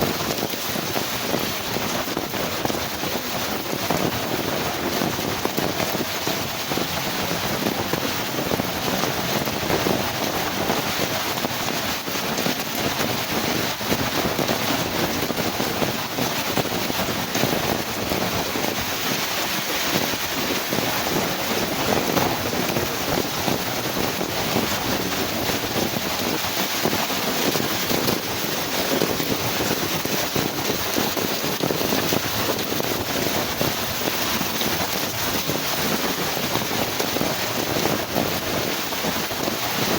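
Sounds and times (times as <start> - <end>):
heavy rain pouring: 0.0 - 39.9
wind blowing: 0.0 - 39.9.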